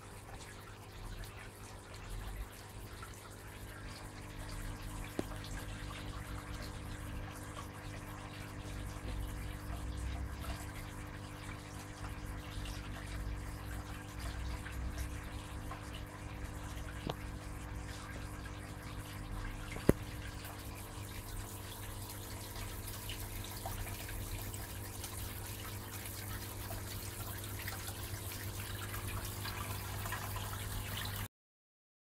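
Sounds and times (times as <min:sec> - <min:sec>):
filter pump humming: 0:00.0 - 0:31.3
water trickling and splashing: 0:00.0 - 0:31.3.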